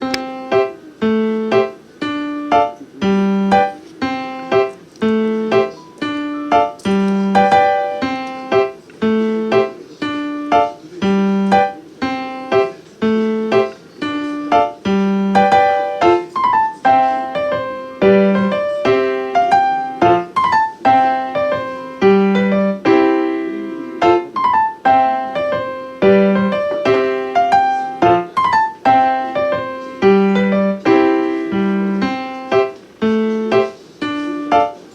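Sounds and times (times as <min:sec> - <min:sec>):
solo piano music: 0:00.0 - 0:34.9.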